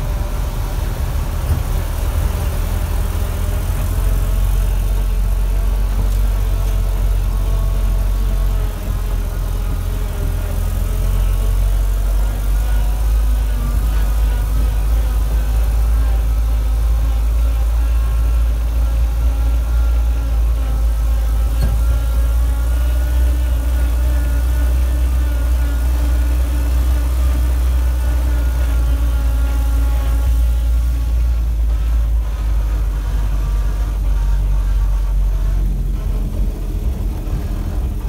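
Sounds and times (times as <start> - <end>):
engine rumbling while driving: 0.0 - 38.0.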